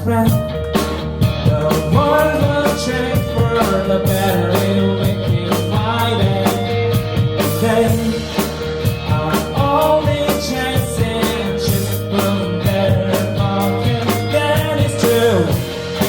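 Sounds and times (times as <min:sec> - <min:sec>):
drum kit beat: 0:00.0 - 0:16.0
rock band playing: 0:00.0 - 0:16.0.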